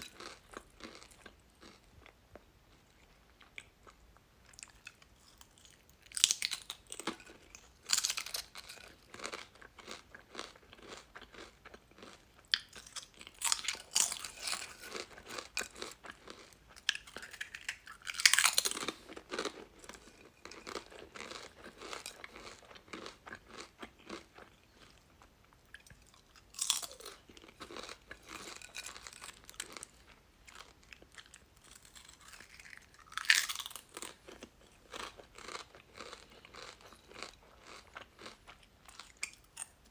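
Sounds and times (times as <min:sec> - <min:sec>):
potato chips crunching: 0:00.0 - 0:02.1, 0:04.5 - 0:25.0, 0:25.7 - 0:39.8
crackly chewing: 0:00.0 - 0:39.9.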